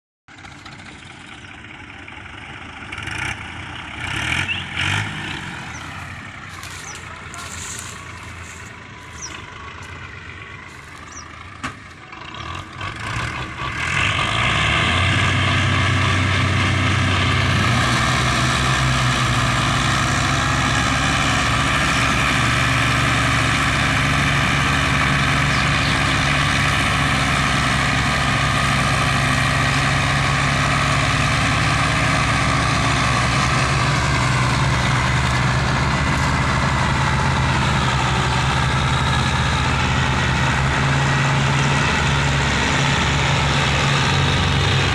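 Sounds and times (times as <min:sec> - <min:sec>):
tractor diesel engines running hard: 0:00.3 - 0:44.9.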